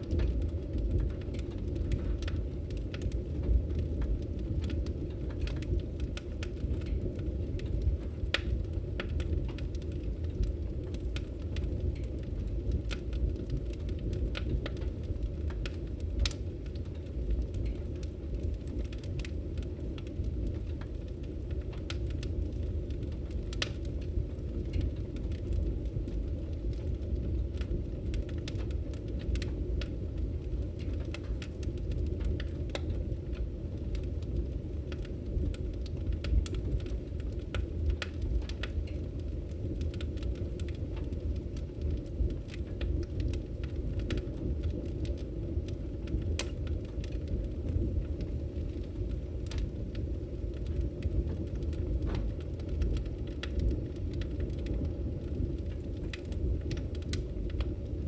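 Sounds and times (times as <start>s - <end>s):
fire crackling and popping: 0.0s - 58.0s
fire roaring: 0.0s - 58.0s.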